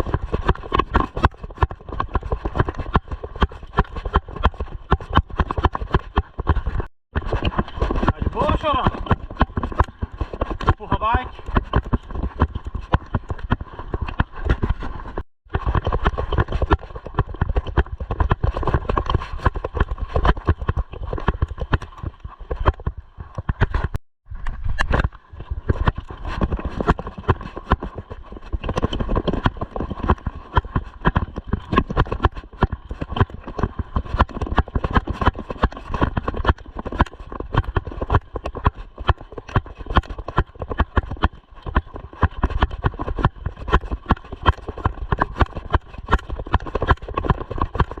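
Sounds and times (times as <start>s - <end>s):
mountain bike rattling over dirt: 0.0s - 48.0s.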